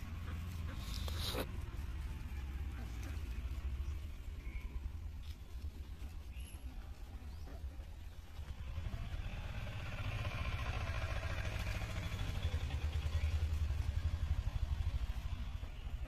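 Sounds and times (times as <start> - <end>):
vehicle engine rumbling past: 0.0 - 16.0.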